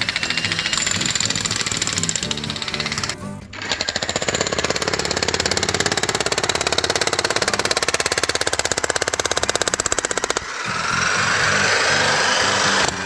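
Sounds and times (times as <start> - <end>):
jackhammer hammering rock: 0.0 - 13.0.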